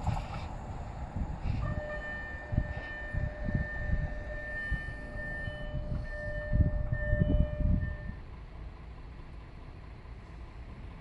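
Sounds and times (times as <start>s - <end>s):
low rumbling: 0.0s - 11.0s.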